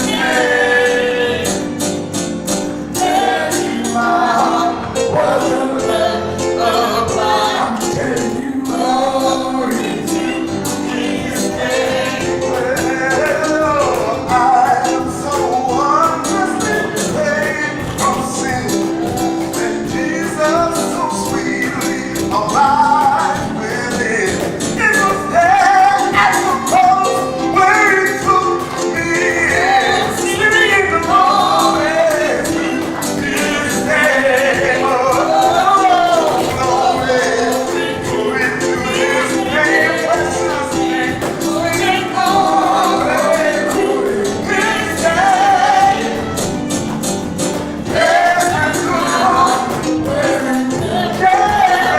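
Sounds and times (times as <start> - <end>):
instrumental accompaniment: 0.0 - 51.9
voices singing gospel song: 0.0 - 51.9.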